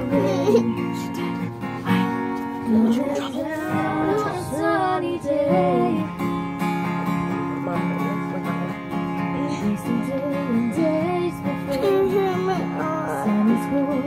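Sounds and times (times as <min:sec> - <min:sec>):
person singing: 0:00.0 - 0:02.0, 0:02.6 - 0:14.0
guitar strumming: 0:00.0 - 0:14.0.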